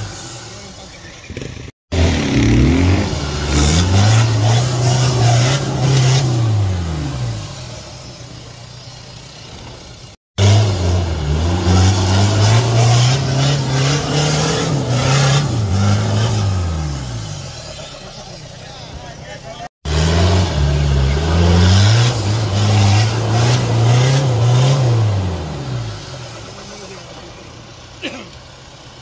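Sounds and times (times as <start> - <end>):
off-road vehicle engine revving: 0.0 - 29.0.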